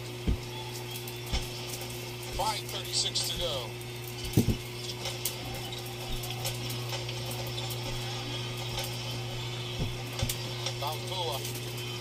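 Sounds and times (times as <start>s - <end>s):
basketball broadcast on tv: 0.0s - 12.0s.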